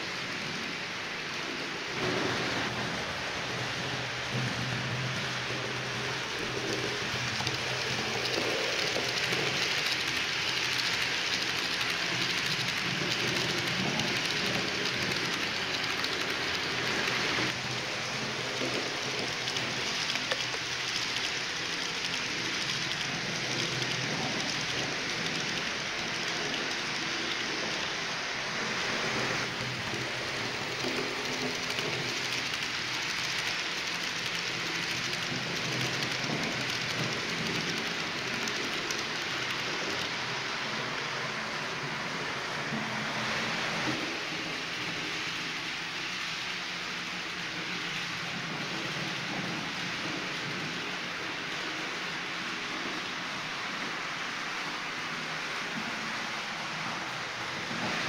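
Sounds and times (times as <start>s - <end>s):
model train wheels on rails: 0.0s - 58.0s.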